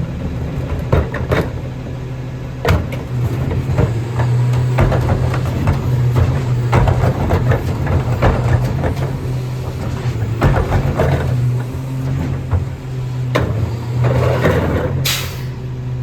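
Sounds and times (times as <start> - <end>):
clanks and rattles: 0.0 - 15.3
garbage truck engine running: 0.0 - 16.0.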